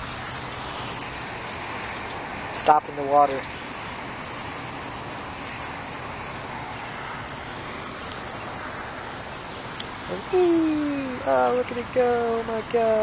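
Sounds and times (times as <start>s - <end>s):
rainwater runoff rushing: 0.0s - 13.0s.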